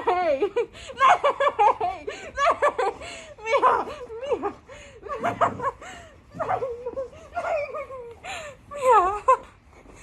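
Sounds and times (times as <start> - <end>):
woman giggling: 0.0 - 9.6.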